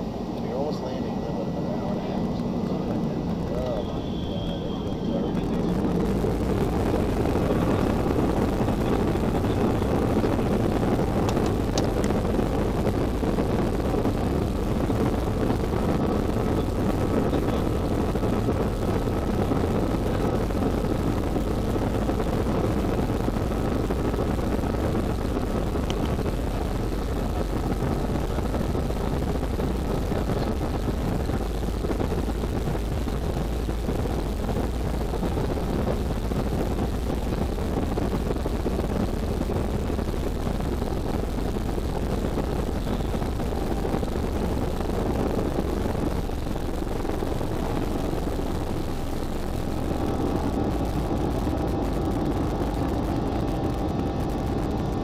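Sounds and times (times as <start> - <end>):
jet engines roaring with whine: 0.0 - 55.0
wheels rumbling on runway: 0.0 - 55.0.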